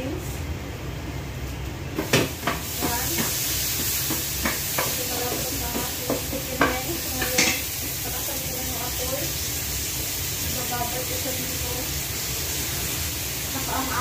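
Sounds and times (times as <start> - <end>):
chicken wings sizzling in oil: 2.0 - 14.0.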